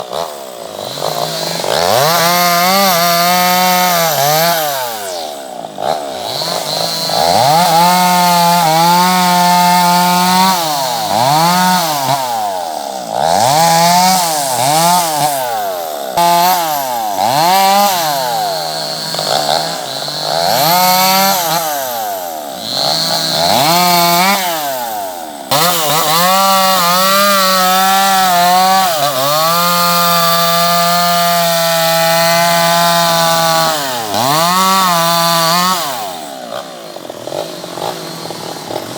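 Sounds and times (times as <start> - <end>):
chainsaw revving cutting wood: 0.0 - 38.9.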